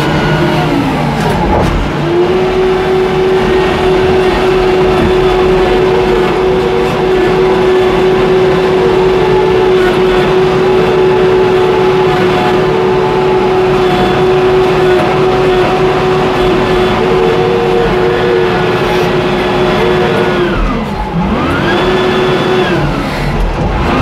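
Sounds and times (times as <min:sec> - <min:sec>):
constant whine: 0:00.0 - 0:24.0
diesel engine running: 0:00.0 - 0:24.0.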